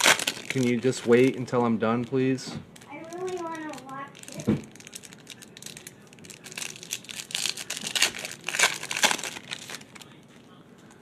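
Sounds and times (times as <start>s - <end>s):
foil wrapper tearing and crinkling: 0.0s - 10.2s.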